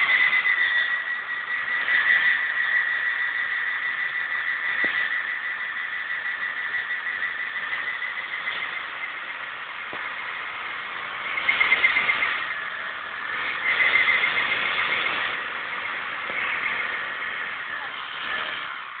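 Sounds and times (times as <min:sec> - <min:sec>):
motorbike tyre squealing: 0:00.0 - 0:19.0.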